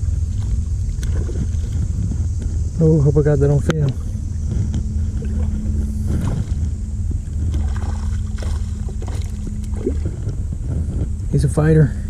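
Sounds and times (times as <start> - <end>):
flowing river water: 0.0 - 11.7
faint steady hum: 0.0 - 12.0
wind rumbling on microphone: 0.0 - 12.0.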